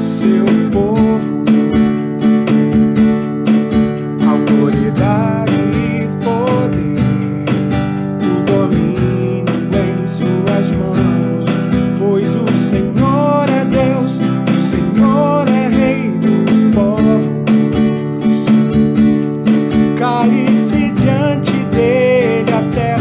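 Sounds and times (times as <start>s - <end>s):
nylon-string guitar strumming: 0.0s - 23.0s
second acoustic guitar: 0.0s - 23.0s.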